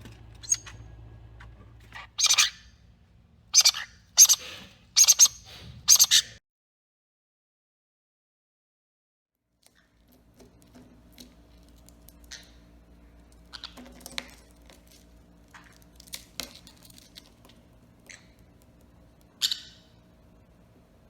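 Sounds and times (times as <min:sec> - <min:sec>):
low steady hum: 0:00.0 - 0:06.4, 0:09.7 - 0:21.0.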